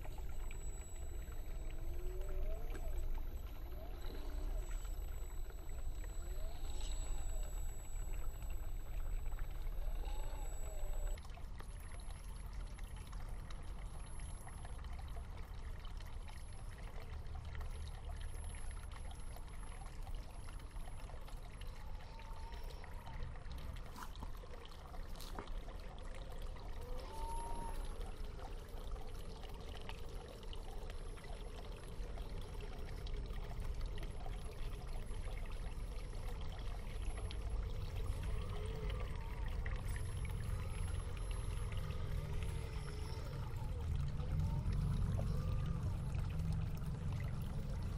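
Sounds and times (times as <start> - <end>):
water trickling and pouring: 0.0 - 47.9.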